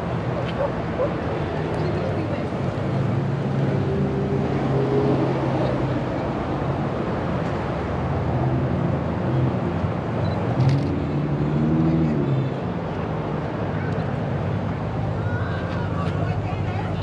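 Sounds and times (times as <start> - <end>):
outdoor noise: 0.0 - 17.0.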